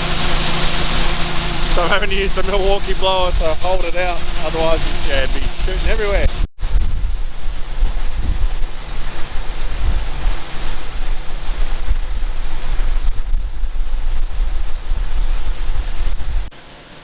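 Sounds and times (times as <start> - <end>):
wind buffeting microphone: 0.0 - 16.5
auger running: 0.0 - 17.0
cordless blower running: 0.0 - 17.0.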